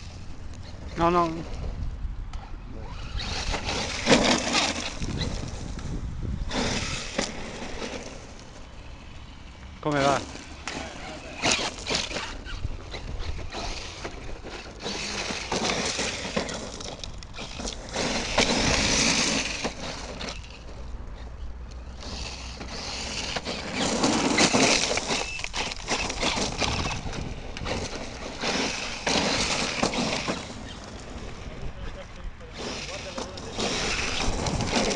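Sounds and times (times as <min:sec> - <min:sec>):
rc truck motor accelerating: 0:00.0 - 0:34.9
tyres churning loose ground: 0:02.8 - 0:34.9.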